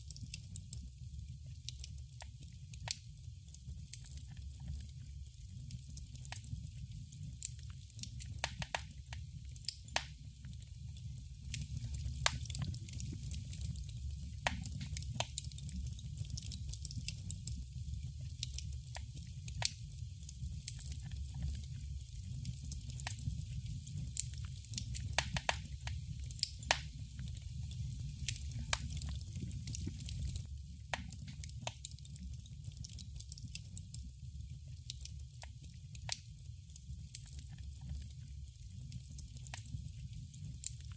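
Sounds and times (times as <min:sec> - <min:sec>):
fire low rumble: 0:00.0 - 0:40.9
wood fire crackling: 0:00.0 - 0:40.9.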